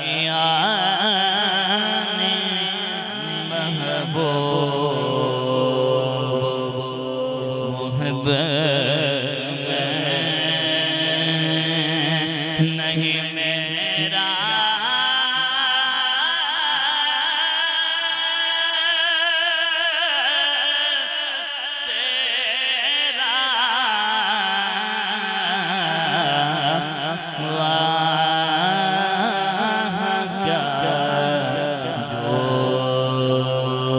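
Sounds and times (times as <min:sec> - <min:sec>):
man singing devotional song: 0:00.0 - 0:33.9.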